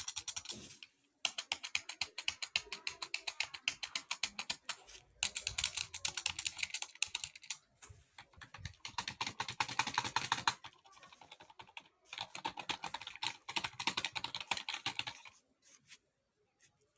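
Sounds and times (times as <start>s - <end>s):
fast typing on keyboard: 0.0s - 15.4s.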